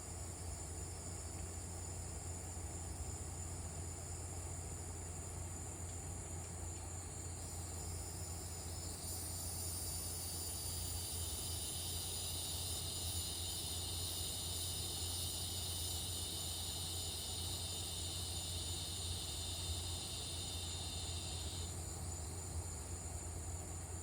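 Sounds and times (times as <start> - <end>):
crickets and cicadas chirring: 0.0 - 24.0.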